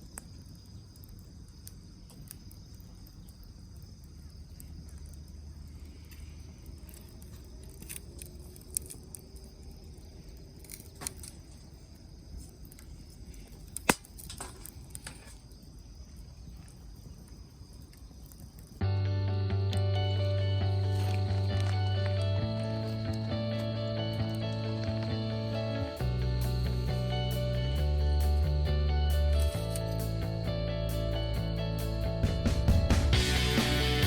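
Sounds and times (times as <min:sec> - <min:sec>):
campfire crackling and popping: 0:00.0 - 0:30.5, 0:32.1 - 0:34.0
insects chirring: 0:00.0 - 0:34.0.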